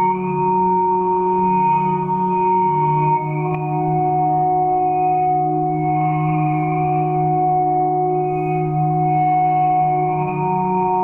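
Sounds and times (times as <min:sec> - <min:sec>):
ambient meditation music: 0:00.0 - 0:11.0.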